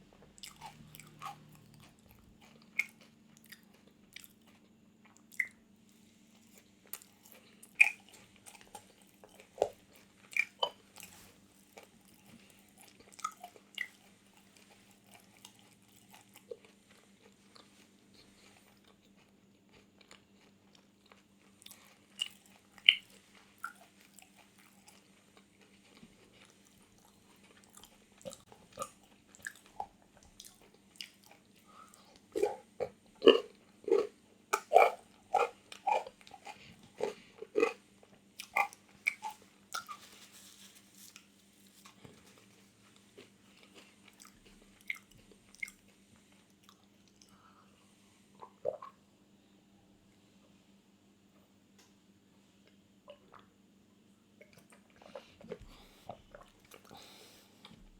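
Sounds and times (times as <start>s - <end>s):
chewing and crunching: 0.0s - 47.5s, 54.4s - 57.9s
faint low hum: 0.0s - 57.9s.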